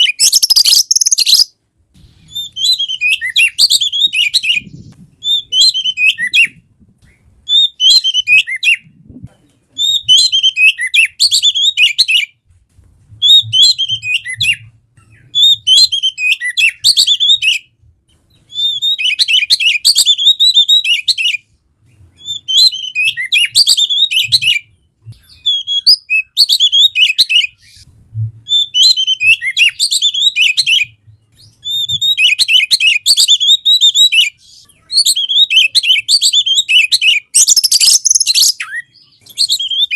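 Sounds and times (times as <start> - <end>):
magpie-robin singing: 0.0 - 1.5, 2.3 - 8.9, 9.8 - 12.4, 13.2 - 17.7, 18.3 - 27.8, 28.5 - 39.9.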